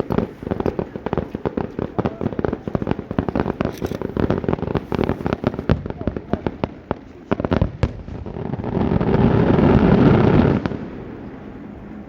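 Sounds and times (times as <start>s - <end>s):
fireworks barrage: 0.0s - 12.0s.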